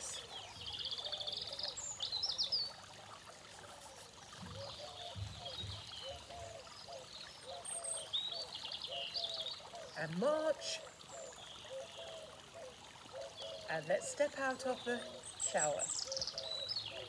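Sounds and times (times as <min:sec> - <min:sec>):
fountain trickling: 0:00.0 - 0:17.0.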